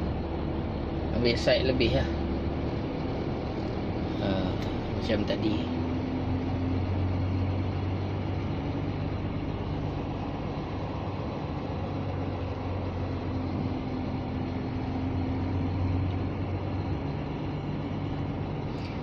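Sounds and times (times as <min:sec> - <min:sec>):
truck diesel engine low hum: 0:00.0 - 0:19.0.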